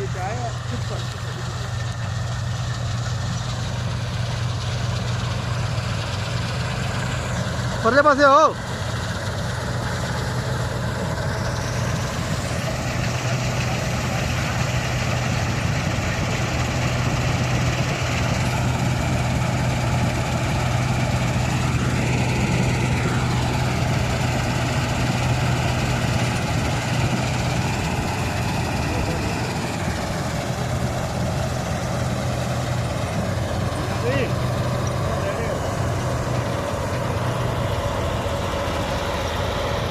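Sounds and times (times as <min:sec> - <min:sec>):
harvester engine humming: 0:00.0 - 0:39.9
machinery rush: 0:00.0 - 0:39.9.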